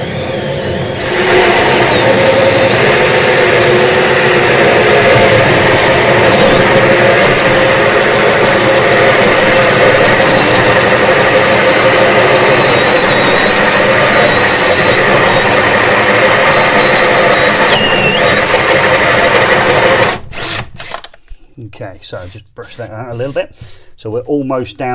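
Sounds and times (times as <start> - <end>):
cordless drill motor whine: 0.0 - 21.2
hole saw rasping into chipboard: 0.6 - 21.0, 22.0 - 23.9.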